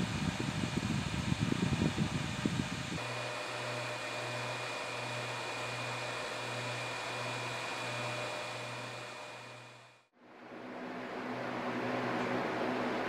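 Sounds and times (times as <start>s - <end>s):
fans blowing air: 0.0s - 13.0s.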